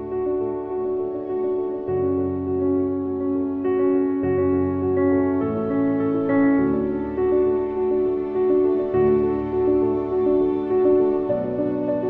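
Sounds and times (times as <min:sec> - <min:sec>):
calm new-age keyboard music: 0:00.0 - 0:12.0.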